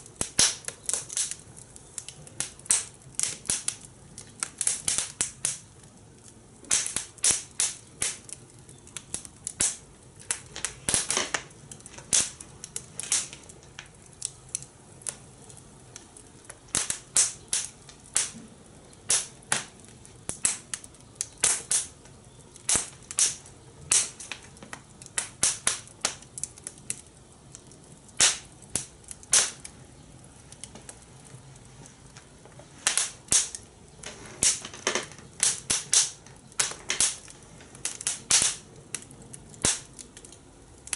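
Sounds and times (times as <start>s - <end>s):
fire crackling and popping: 0.0s - 40.9s
low steady hiss: 0.0s - 40.9s.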